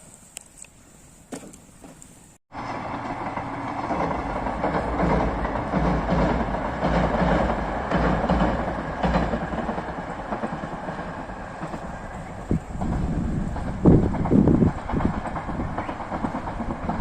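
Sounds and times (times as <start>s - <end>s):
train wheels clacking over rails: 2.6s - 17.0s.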